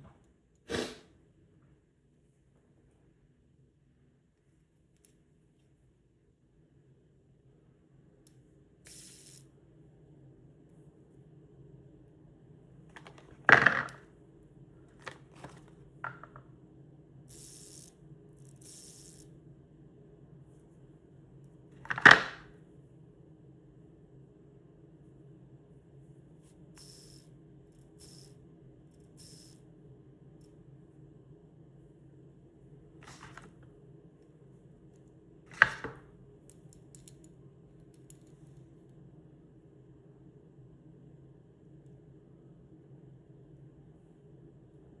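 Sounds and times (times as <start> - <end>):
low steady hum: 1.2 - 45.0.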